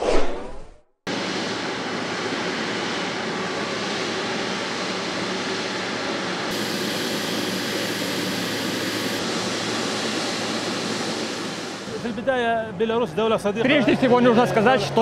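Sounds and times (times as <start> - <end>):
jet engines taxiing: 1.1 - 15.0.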